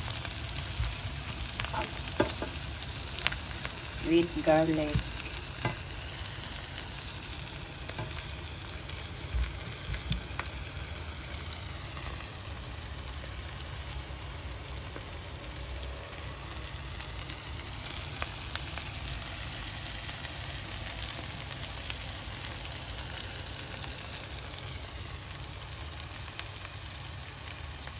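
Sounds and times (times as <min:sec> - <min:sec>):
prawns sizzling in frying pan: 0:00.0 - 0:27.9.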